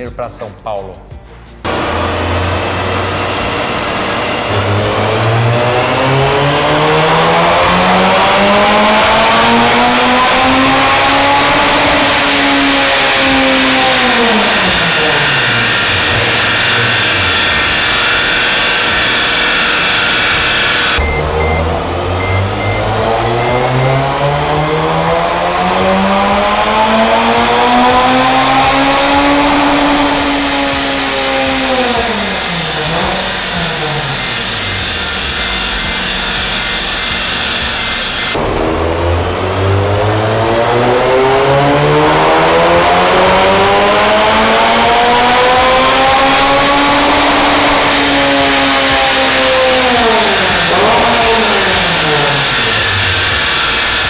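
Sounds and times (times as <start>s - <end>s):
car engine revving: 1.6s - 54.0s.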